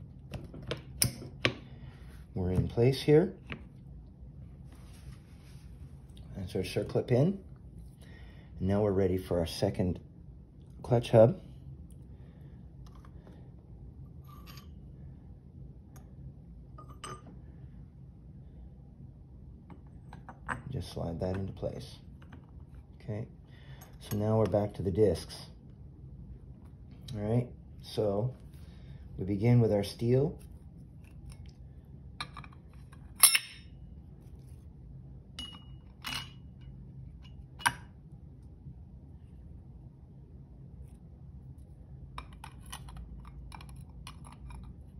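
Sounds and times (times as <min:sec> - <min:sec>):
low steady hum: 0:00.0 - 0:44.9.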